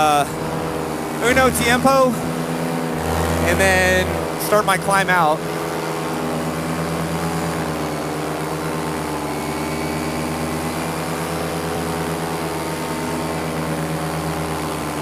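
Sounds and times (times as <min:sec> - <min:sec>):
paramotor engine and propeller drone: 0:00.0 - 0:15.0.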